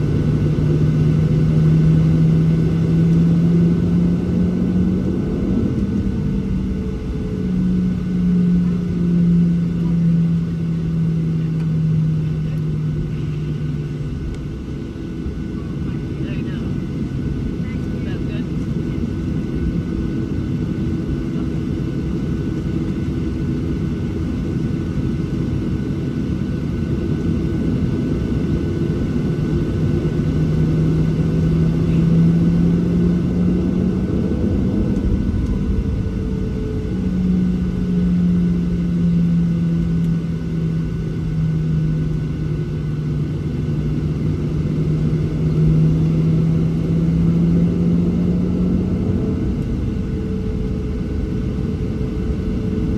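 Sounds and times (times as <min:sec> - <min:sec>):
aircraft cabin rumble: 0:00.0 - 0:52.9
low wavering hum: 0:00.0 - 0:52.9.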